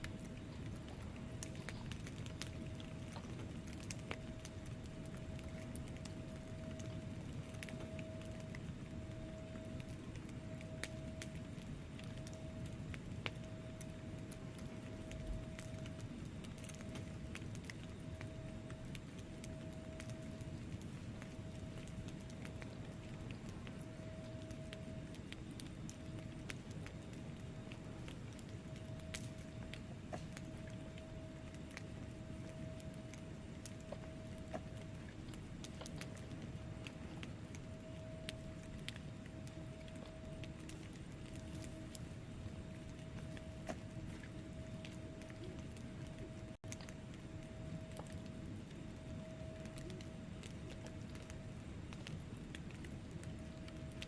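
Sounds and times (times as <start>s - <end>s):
faint steady tone: 0.0s - 54.0s
fire flames rumbling: 0.0s - 54.0s
logs crackling and popping: 0.0s - 54.0s.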